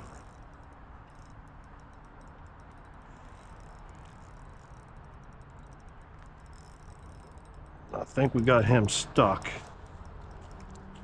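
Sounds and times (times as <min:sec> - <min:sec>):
light irregular ticking: 0:00.0 - 0:11.0.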